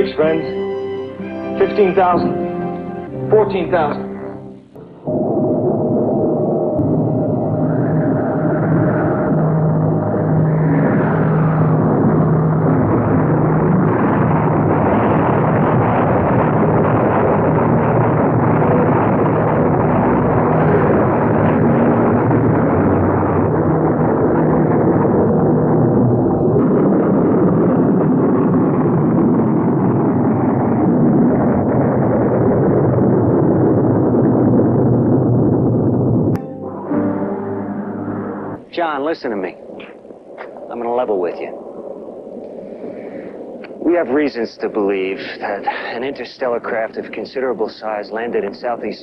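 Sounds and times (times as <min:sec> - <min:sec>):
spacecraft rumbling roar: 0:00.0 - 0:47.6.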